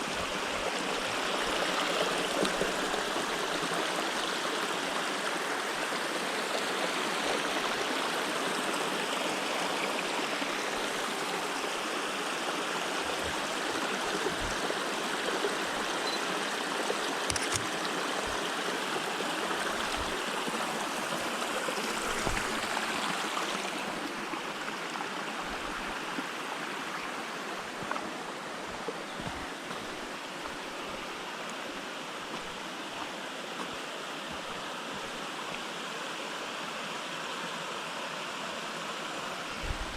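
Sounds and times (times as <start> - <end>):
waterfall rushing: 0.0 - 35.7.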